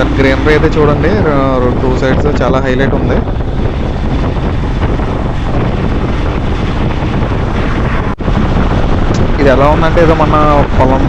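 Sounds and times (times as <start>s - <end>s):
vehicle and road noise: 0.0s - 11.0s
wind rushing over microphone: 0.0s - 11.0s.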